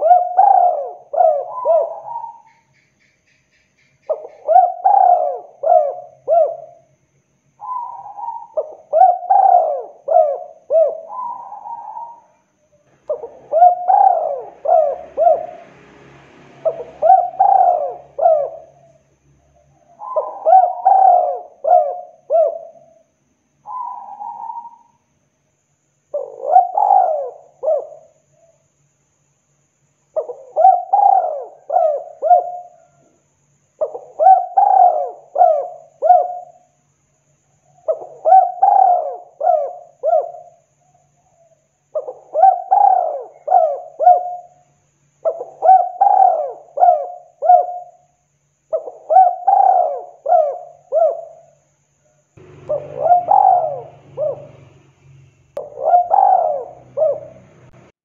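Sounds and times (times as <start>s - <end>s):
dove cooing: 0.0s - 2.7s, 4.1s - 6.9s, 7.6s - 15.8s, 16.6s - 19.0s, 19.6s - 23.0s, 23.7s - 25.0s, 26.1s - 28.6s, 30.2s - 33.2s, 33.8s - 36.7s, 37.6s - 44.6s, 45.2s - 48.1s, 48.7s - 51.6s, 52.4s - 54.8s, 55.6s - 57.9s.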